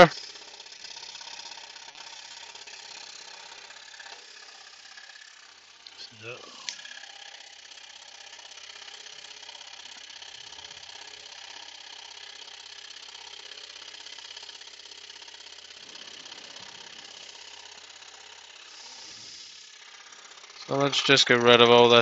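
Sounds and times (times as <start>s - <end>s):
scroll saw cutting wood: 0.0s - 22.0s.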